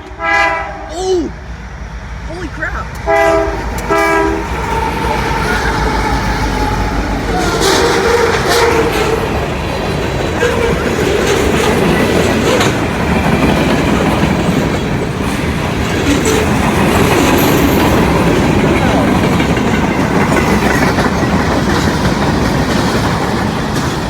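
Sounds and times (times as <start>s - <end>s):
freight train passing: 0.0s - 24.0s
wheels clicking over rail joints: 2.9s - 24.0s.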